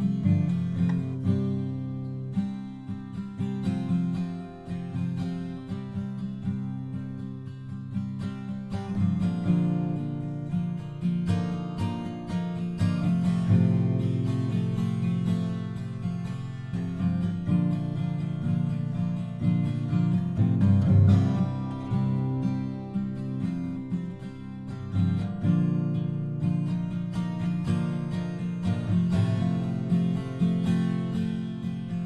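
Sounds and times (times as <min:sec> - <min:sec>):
acoustic guitar music: 0:00.0 - 0:32.0.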